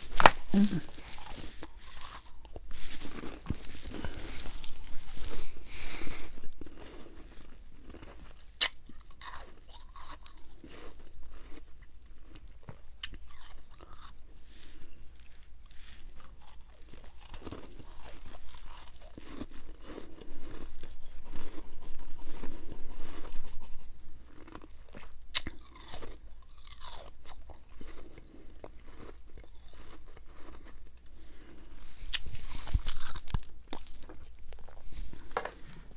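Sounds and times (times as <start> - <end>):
person crunching ice: 0.0 - 11.6, 16.0 - 23.4, 24.3 - 35.9.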